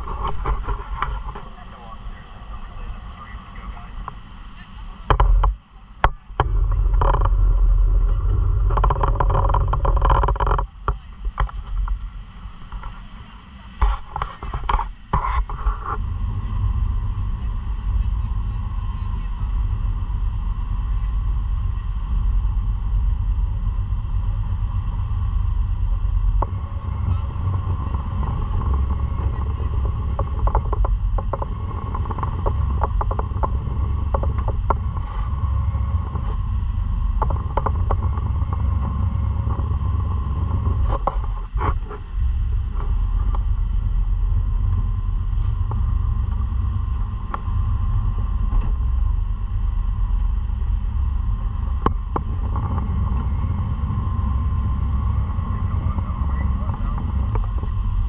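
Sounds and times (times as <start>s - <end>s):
jet boat engine rumble: 0.0s - 58.0s.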